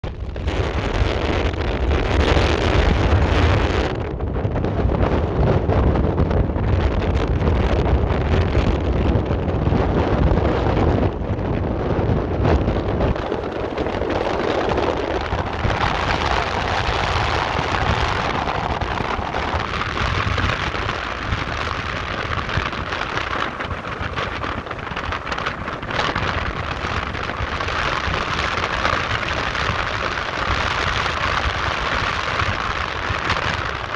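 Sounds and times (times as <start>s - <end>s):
volcano rumbling and crackling: 0.0s - 33.9s
wind buffeting microphone: 0.0s - 33.9s.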